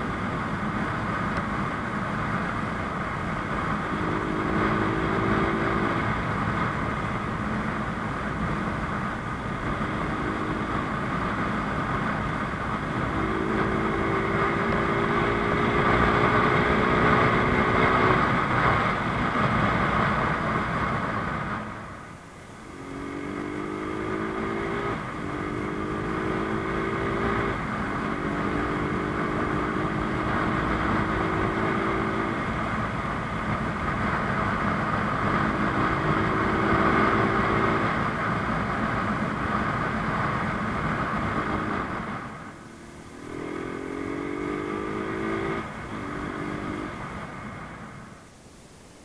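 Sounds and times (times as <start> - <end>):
motorcycle engine revving: 0.0 - 48.0
riding wind noise: 0.0 - 49.0.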